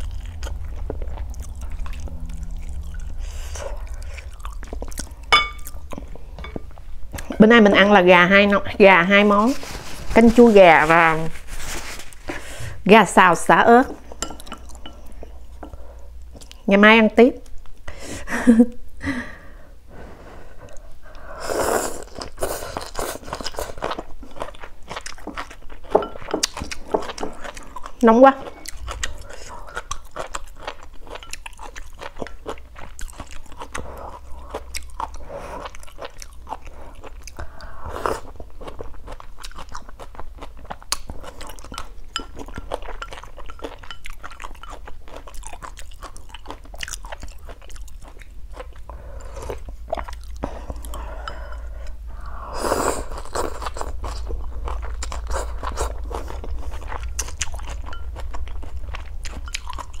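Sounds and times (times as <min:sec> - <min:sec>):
person chewing: 0:00.0 - 0:07.4, 0:14.1 - 0:16.6, 0:20.6 - 1:00.0
steady low hum: 0:00.0 - 1:00.0.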